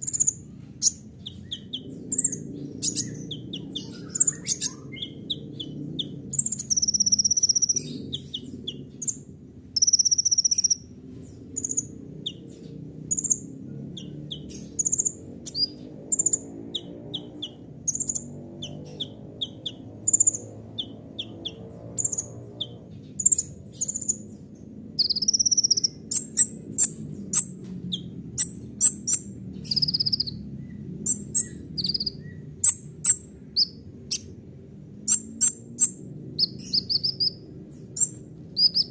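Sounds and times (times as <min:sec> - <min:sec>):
steady low hum: 0:00.0 - 0:38.9
sunbird singing high chirps: 0:00.0 - 0:38.9.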